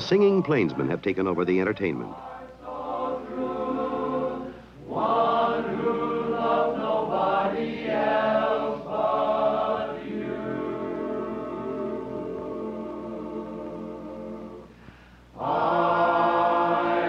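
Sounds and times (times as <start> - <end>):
men's chorus singing in harmony: 0.0 - 14.7, 15.4 - 17.0.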